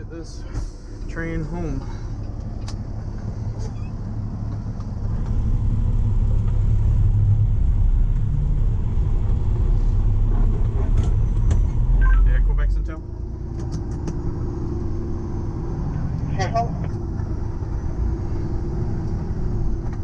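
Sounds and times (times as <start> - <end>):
road rumble: 0.0 - 20.0
tow truck engine: 0.0 - 20.0.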